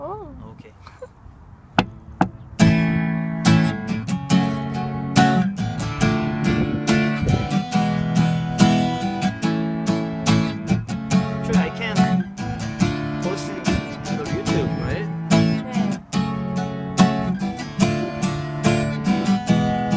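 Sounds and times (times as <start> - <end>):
acoustic guitar strumming chords: 1.8 - 19.9.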